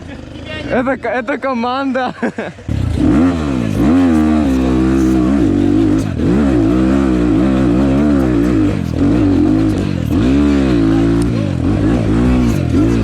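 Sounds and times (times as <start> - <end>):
motorcycle engine revving: 2.3 - 13.0.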